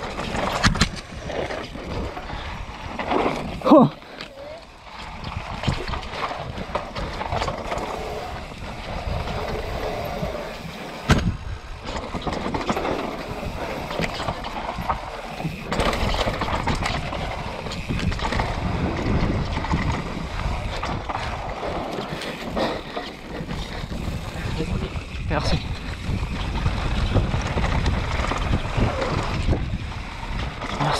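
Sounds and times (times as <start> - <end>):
bike clattering over bumps: 0.0 - 30.9
tyres on dirt: 0.0 - 30.9
wind buffeting microphone: 4.7 - 30.9.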